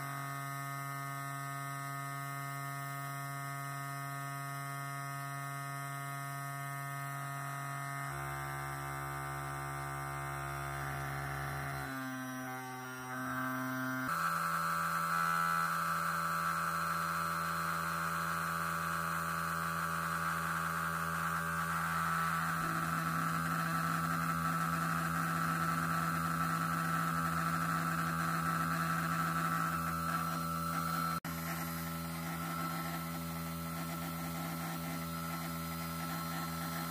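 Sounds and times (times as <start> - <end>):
electric motor humming: 0.0 - 36.9.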